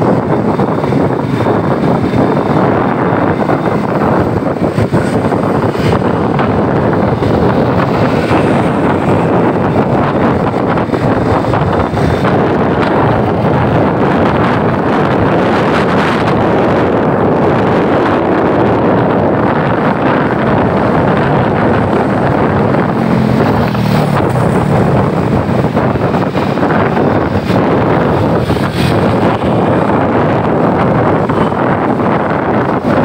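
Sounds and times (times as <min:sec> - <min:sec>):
city traffic: 0:00.0 - 0:33.0
motorbike engine: 0:00.0 - 0:33.0
wind rushing over microphone: 0:00.0 - 0:33.0.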